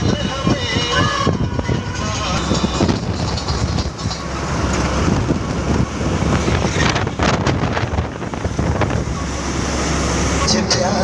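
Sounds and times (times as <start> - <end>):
wind rushing over microphone: 0.0 - 10.4
road and engine noise: 0.0 - 11.0.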